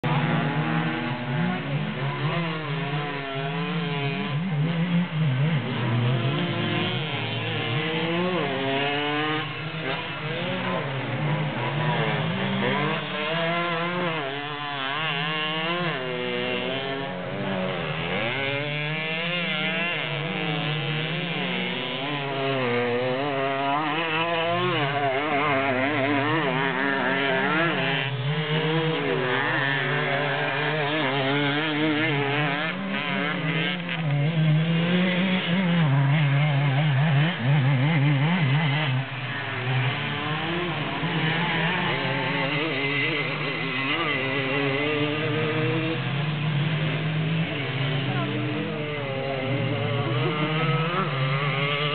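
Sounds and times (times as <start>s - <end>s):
small engines buzzing and revving: 0.0s - 51.9s.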